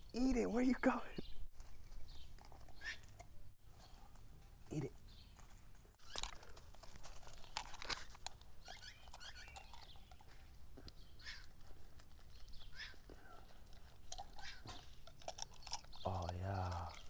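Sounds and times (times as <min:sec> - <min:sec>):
paws on gravel and concrete: 0:01.5 - 0:17.0.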